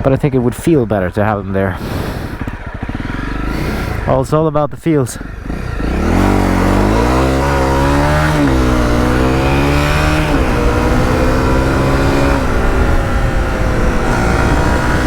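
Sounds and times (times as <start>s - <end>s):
motorcycle engine accelerating: 1.3s - 4.6s, 5.2s - 15.0s.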